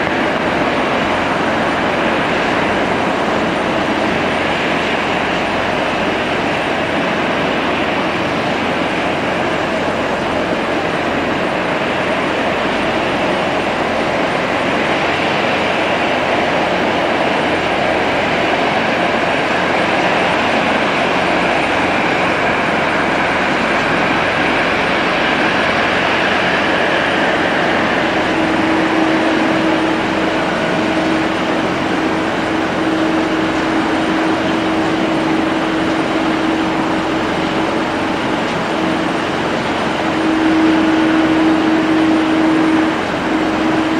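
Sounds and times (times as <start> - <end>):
jet engines running: 0.0 - 43.9
steady hum: 0.0 - 43.9.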